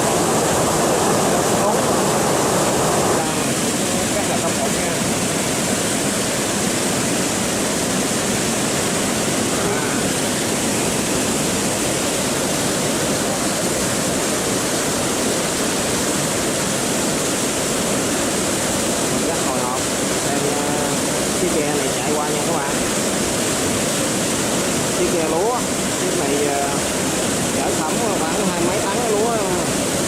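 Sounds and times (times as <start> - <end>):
water rushing through dam gates: 0.0 - 30.0.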